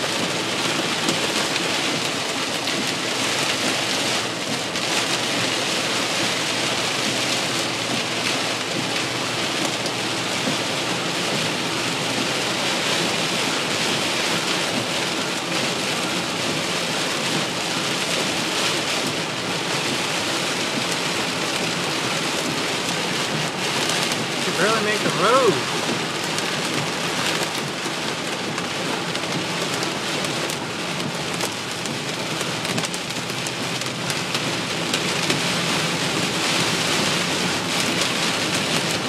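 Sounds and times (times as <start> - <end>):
heavy rain on car roof: 0.0 - 39.0.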